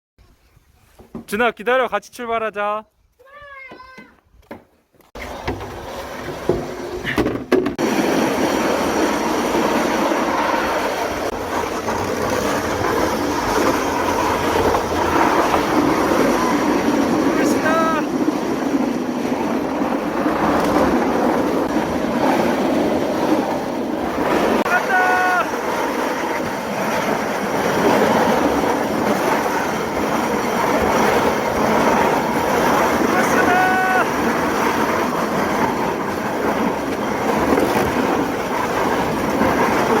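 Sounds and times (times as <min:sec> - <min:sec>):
rider rushing down slide chute: 0:05.0 - 0:40.0.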